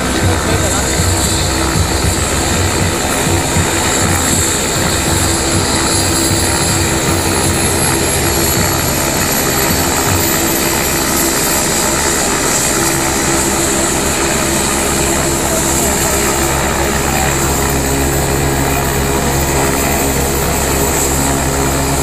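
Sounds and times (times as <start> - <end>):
helicopter turbine whine: 0.0 - 22.0.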